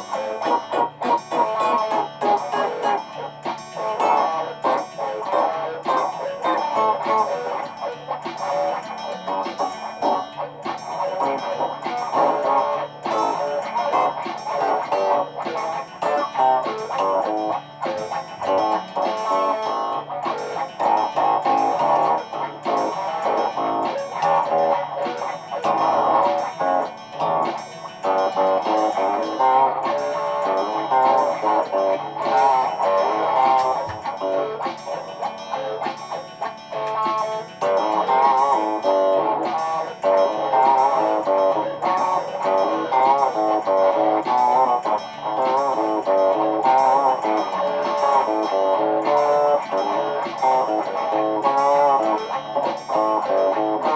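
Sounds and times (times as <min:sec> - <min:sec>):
electric guitar riff: 0:00.0 - 0:53.9.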